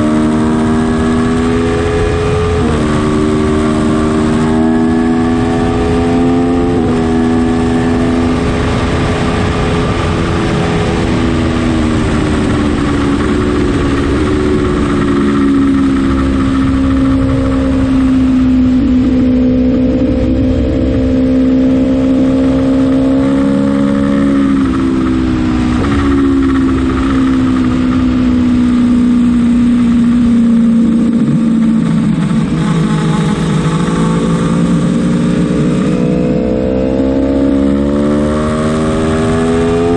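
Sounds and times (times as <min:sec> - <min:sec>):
motorcycle engine revving: 0:00.0 - 0:39.9
steady rush of noise: 0:06.4 - 0:39.9.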